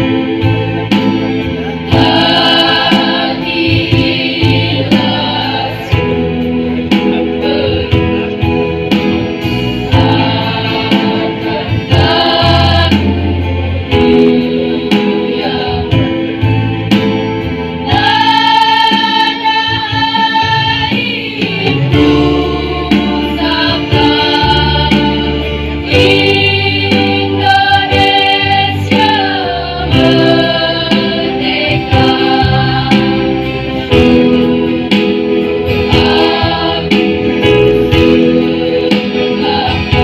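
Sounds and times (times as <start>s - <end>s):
steady bass line: 0.0s - 40.0s
choir singing: 1.0s - 8.4s, 9.7s - 16.2s, 17.8s - 40.0s.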